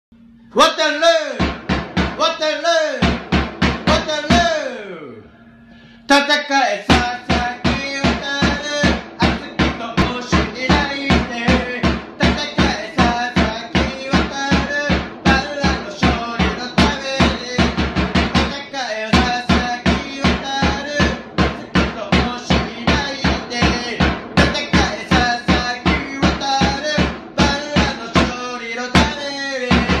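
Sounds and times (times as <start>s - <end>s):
steady drum beat: 1.4s - 2.2s, 3.0s - 4.5s, 6.9s - 30.0s.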